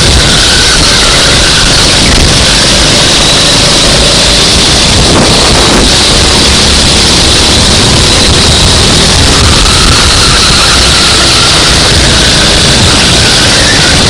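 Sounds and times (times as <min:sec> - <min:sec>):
kart engine racing: 0:00.0 - 0:14.0
wind on microphone: 0:00.0 - 0:14.0.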